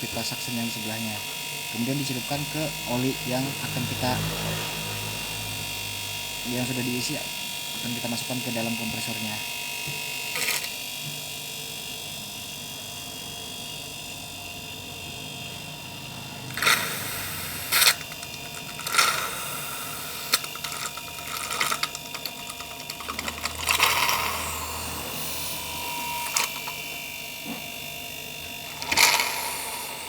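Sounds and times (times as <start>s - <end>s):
refrigerator compressor running: 0.0s - 30.0s.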